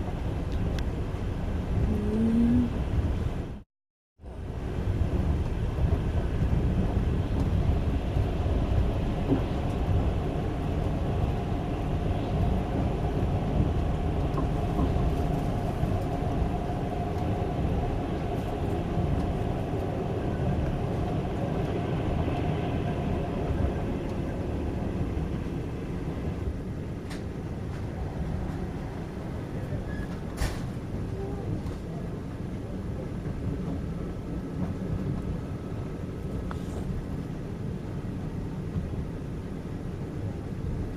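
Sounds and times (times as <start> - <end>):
train rumbling on rails: 0.0 - 3.6, 4.2 - 40.9.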